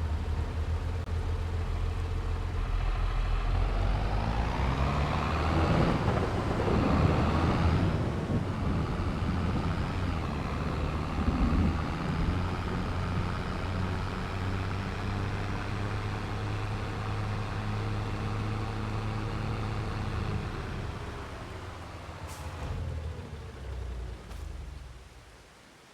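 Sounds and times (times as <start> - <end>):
tractor engine running: 0.0 - 25.3.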